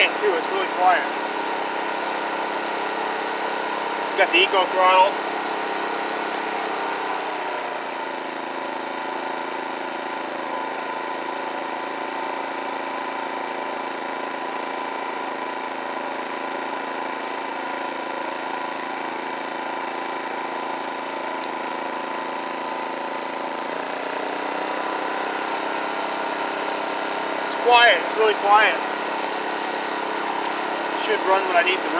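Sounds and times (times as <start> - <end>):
generator engine running: 0.0 - 31.9.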